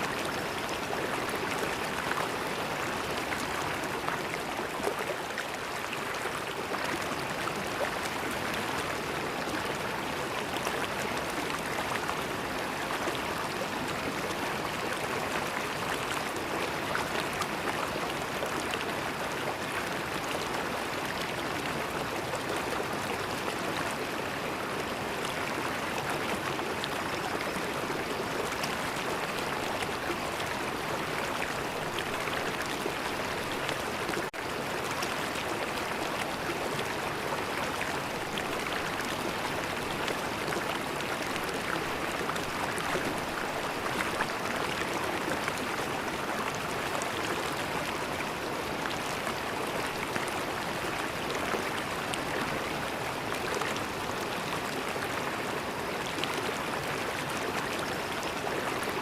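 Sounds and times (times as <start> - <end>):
river water flowing and gurgling: 0.0 - 59.0.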